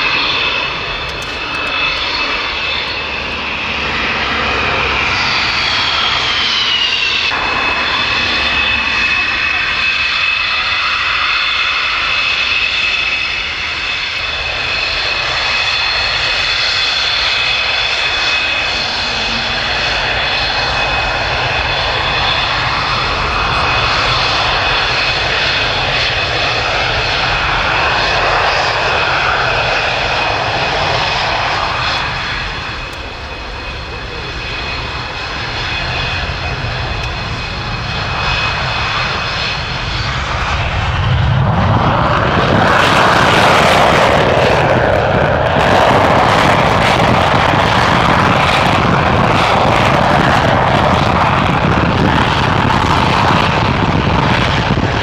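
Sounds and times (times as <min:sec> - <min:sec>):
jet engine whine and rumble: 0:00.0 - 0:55.0.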